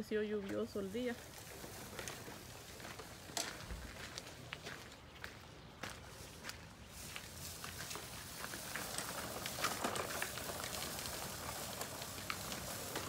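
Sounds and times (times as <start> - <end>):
seed spreader ticking and patter: 0.0 - 13.0.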